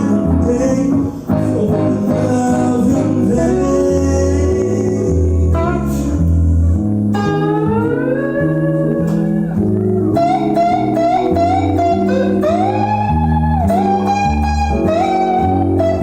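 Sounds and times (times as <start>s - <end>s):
bass line: 0.0s - 16.0s
lead guitar with bending notes: 0.0s - 16.0s.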